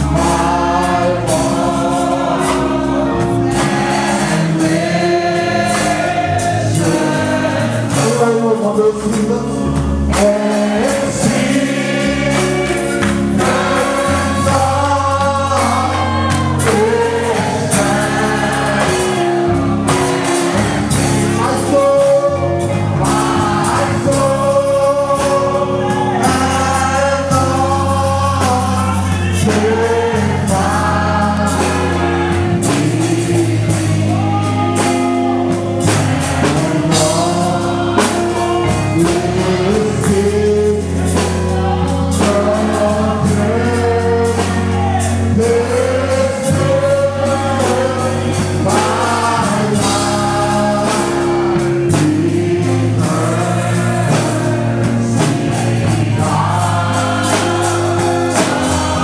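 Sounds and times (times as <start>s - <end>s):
gospel worship singing: 0.0s - 59.0s
low bass notes: 0.0s - 59.0s.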